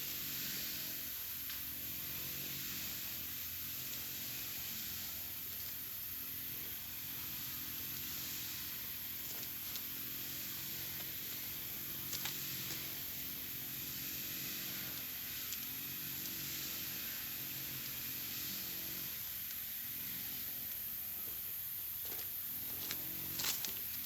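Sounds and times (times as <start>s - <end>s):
high-pitched hiss: 0.0s - 24.0s.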